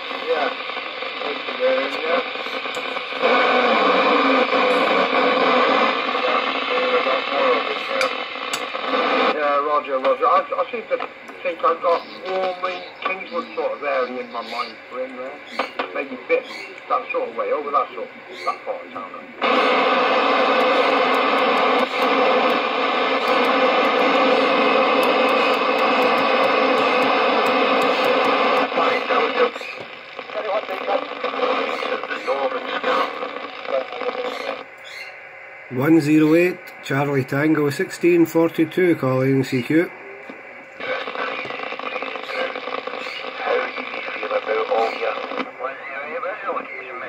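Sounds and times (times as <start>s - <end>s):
faint radio voices: 0.0s - 47.0s
radio static hiss: 0.0s - 47.0s.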